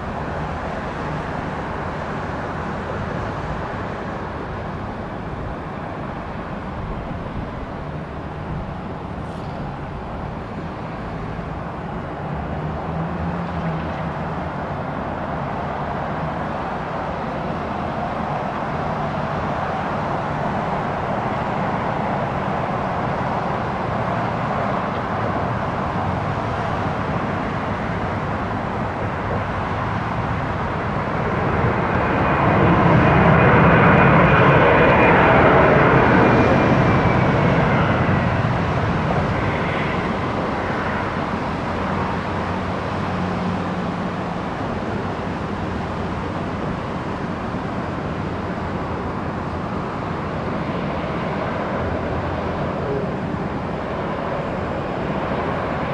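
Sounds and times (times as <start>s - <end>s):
jet airliner approaching: 0.0s - 55.9s.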